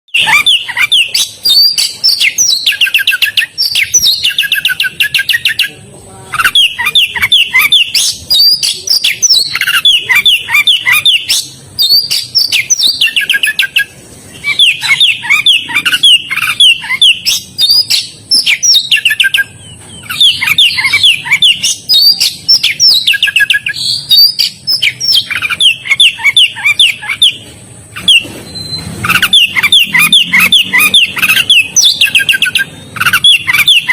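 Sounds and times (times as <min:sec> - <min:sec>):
magpie-robin singing: 0:00.1 - 0:33.9.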